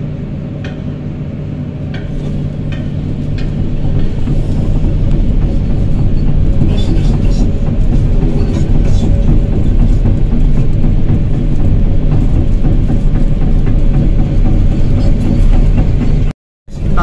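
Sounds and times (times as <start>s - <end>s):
diesel engine running: 0.0s - 17.0s
crawler tracks clanking: 1.8s - 17.0s.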